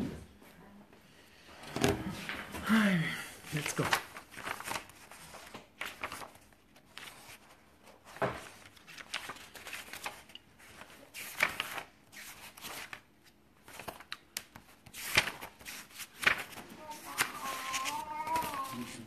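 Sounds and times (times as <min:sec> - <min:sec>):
paper rustling: 0:03.5 - 0:19.0.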